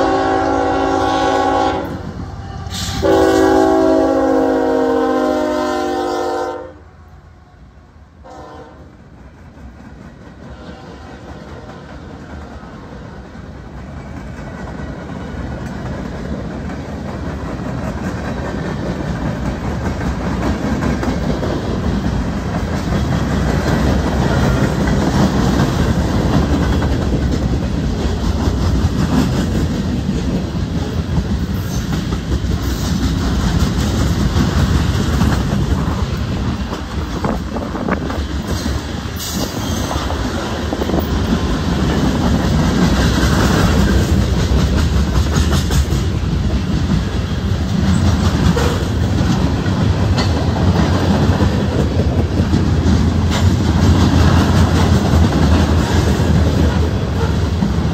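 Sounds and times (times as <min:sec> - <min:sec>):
steel wheels rumbling on rail: 0:00.0 - 0:57.9
wheels clicking over rail joints: 0:09.1 - 0:57.9.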